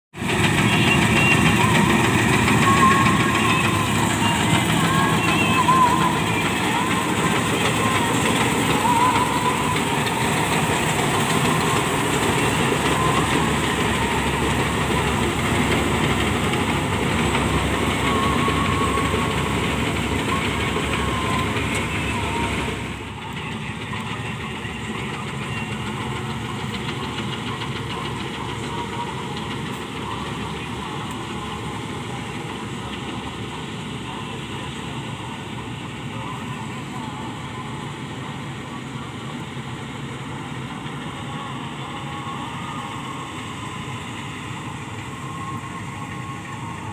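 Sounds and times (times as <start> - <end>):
combine harvester running: 0.2 - 46.9.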